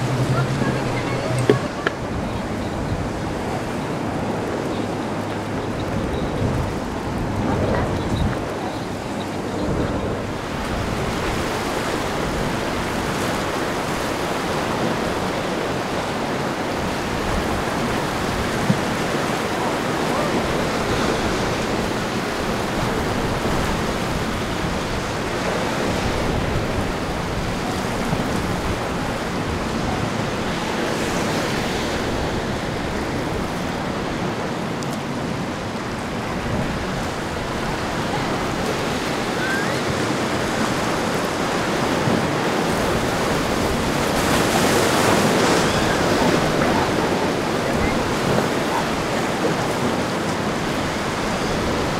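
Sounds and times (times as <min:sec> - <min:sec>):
surf rushing: 0:00.0 - 0:51.9
wind buffeting microphone: 0:00.0 - 0:51.9.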